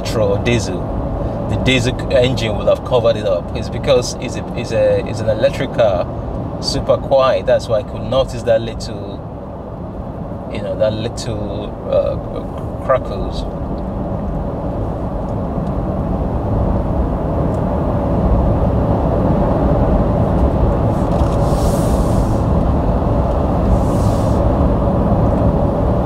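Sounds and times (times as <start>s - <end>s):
wind and tyre noise in car: 0.0s - 26.0s.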